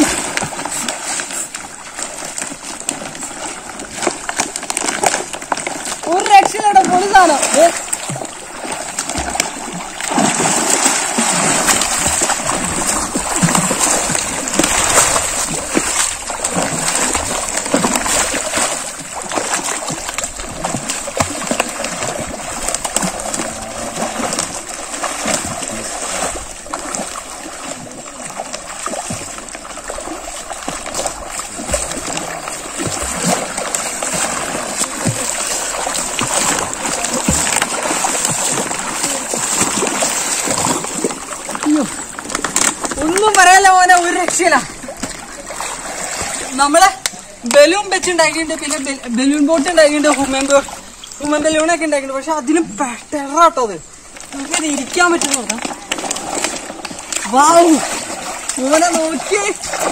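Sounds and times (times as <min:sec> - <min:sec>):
water splashing: 0:00.0 - 0:59.9.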